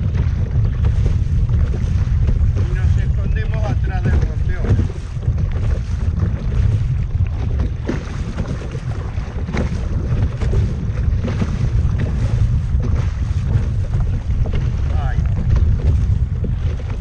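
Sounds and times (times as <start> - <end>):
sea water washing around kayak: 0.0 - 17.0
water splashes: 0.0 - 17.0
wind rumbling on microphone: 0.0 - 17.0.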